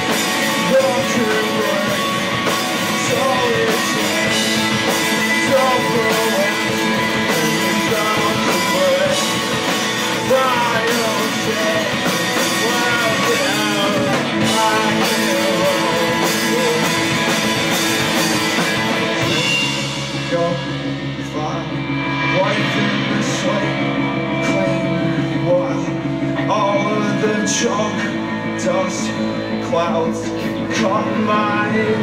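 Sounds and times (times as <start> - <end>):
bass guitar: 0.0 - 32.0
drums with cymbal hits: 0.0 - 32.0
electric guitars: 0.0 - 32.0.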